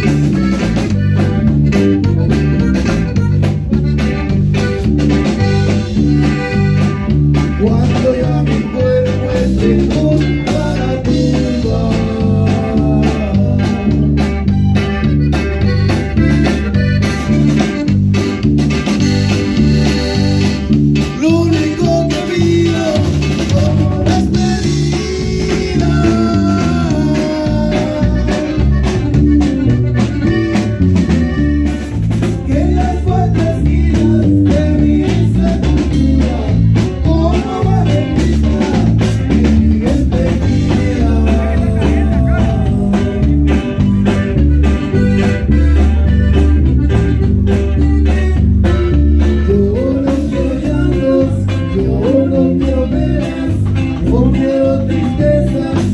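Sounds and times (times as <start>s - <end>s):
bass line: 0.0s - 55.9s
drums: 0.0s - 55.9s
guitar: 0.0s - 55.9s
live band playing: 0.0s - 55.9s.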